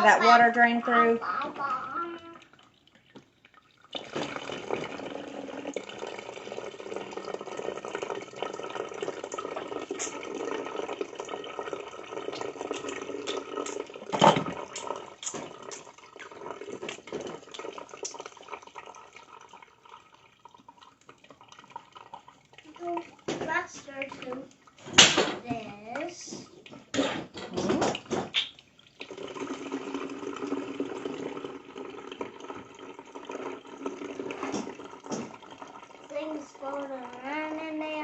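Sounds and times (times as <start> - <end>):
liquid running through strainer: 0.0 - 38.0.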